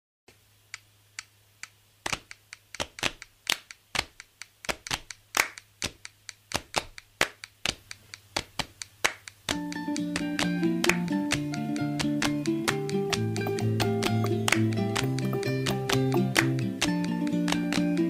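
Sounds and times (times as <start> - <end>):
sharp irregular claps or taps: 1.2 - 18.0.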